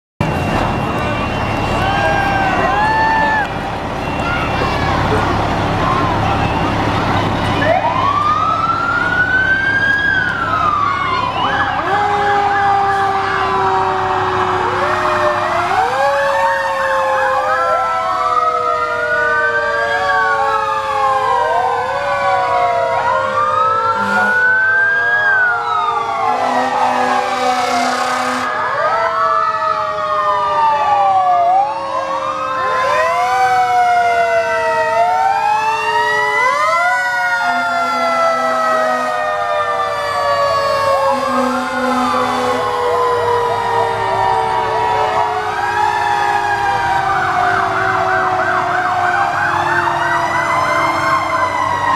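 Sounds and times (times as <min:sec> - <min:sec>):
fire engine sirens wailing: 0:00.2 - 0:51.9.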